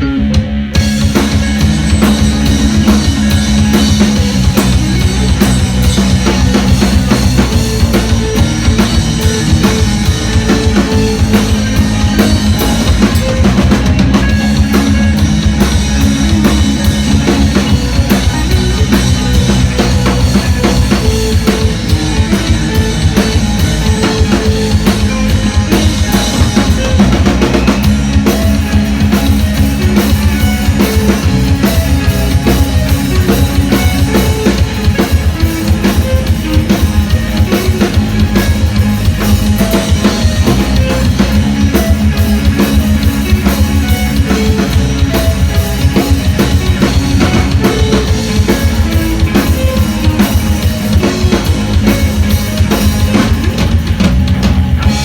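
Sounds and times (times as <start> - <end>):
drum kit beat: 0.0 - 55.0
live band playing: 0.0 - 55.0.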